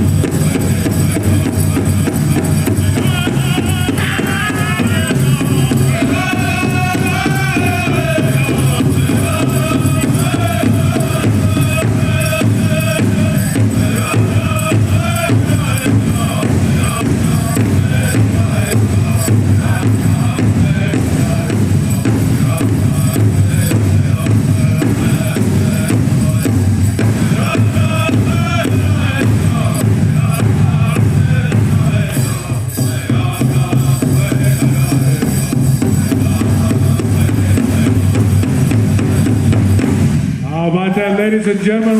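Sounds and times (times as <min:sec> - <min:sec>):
drum group singing: 0:00.0 - 0:41.9
steady drumbeat: 0:00.0 - 0:41.9.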